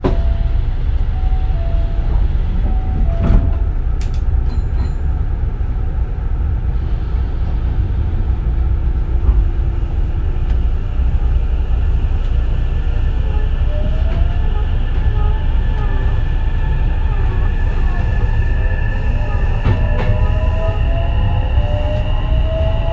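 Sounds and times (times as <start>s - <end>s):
electric train rumbling: 0.0s - 22.9s.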